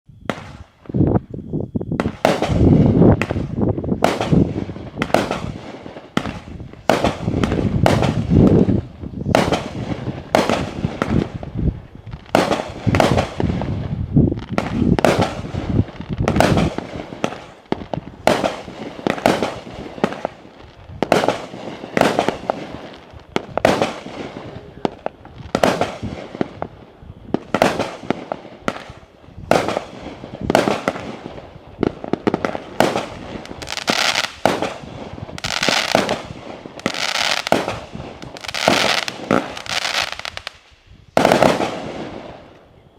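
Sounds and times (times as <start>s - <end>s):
firework bangs with echo: 2.0s - 11.5s, 12.3s - 13.9s, 14.5s - 20.4s, 21.0s - 22.7s, 23.4s - 40.5s, 41.2s - 42.4s.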